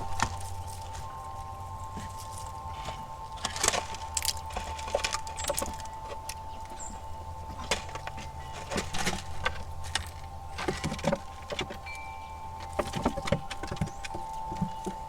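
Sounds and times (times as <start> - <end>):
claws scrabbling on platform: 0.0 - 15.0
squirrels gnawing and cracking nuts: 0.0 - 15.0.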